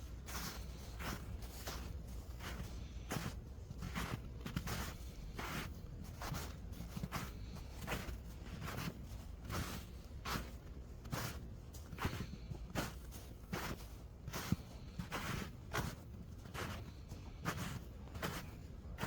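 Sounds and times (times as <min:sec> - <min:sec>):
footsteps on snow: 0:00.0 - 0:19.0
steady low rumble: 0:00.0 - 0:19.0.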